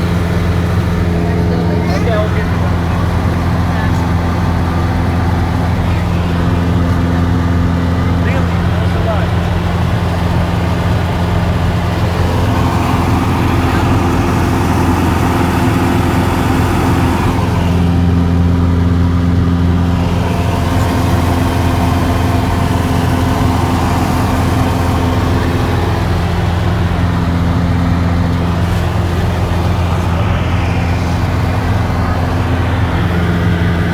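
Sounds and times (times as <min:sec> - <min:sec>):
airplane engine and propeller hum: 0:00.0 - 0:33.9.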